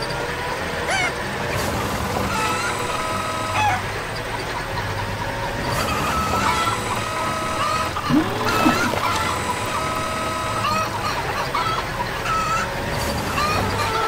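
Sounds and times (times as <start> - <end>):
wheel loader engine running: 0.0 - 14.0
chickens clucking: 0.8 - 14.0.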